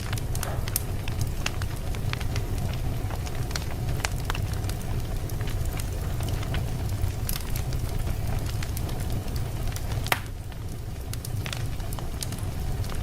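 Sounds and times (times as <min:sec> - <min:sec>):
fire crackling: 0:00.0 - 0:13.0
low rumble of fire: 0:00.0 - 0:13.0
sharp pops of fire: 0:00.0 - 0:13.0.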